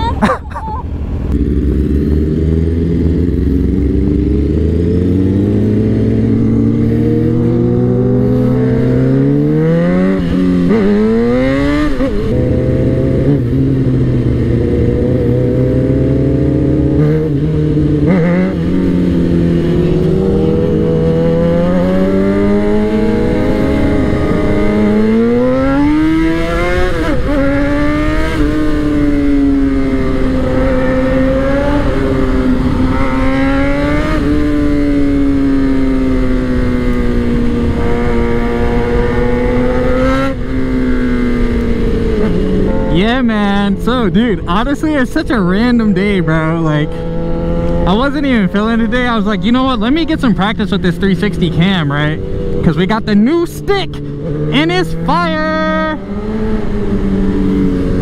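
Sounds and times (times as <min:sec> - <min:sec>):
motorcycle engine revving: 0:01.0 - 0:58.0.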